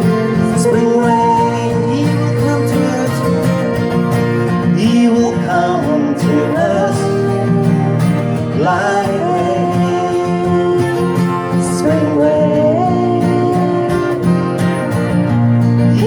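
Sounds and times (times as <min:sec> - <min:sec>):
worship song music: 0:00.0 - 0:14.1.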